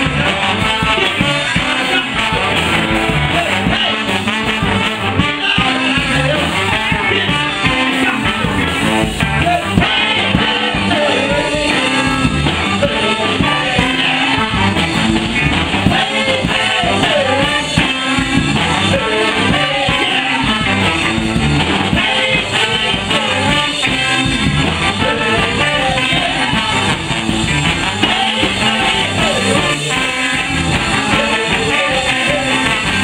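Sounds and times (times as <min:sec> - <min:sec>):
bass: 0:00.0 - 0:33.0
drums: 0:00.0 - 0:33.0
electric guitar: 0:00.0 - 0:33.0
man singing lead: 0:00.0 - 0:33.0
saxophone: 0:00.0 - 0:33.0
trombone: 0:00.0 - 0:33.0.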